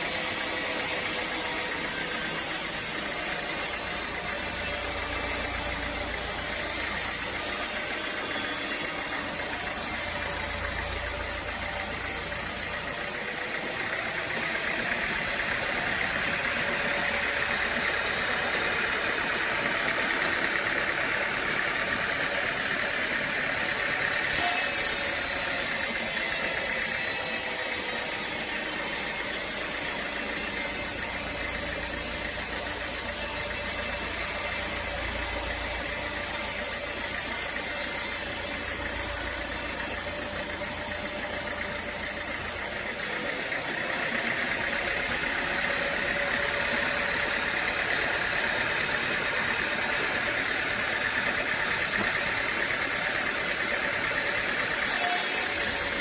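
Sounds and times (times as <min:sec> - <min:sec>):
sawmill machinery whining: 0:00.0 - 0:56.0.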